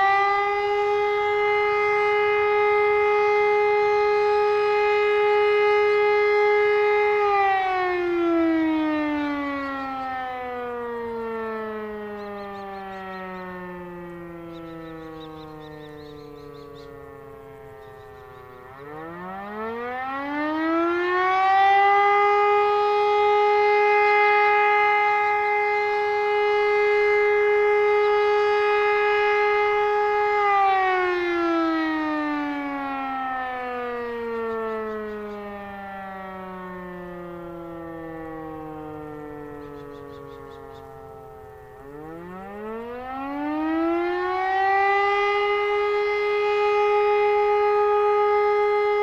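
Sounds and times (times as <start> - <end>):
siren wailing: 0.0 - 49.0.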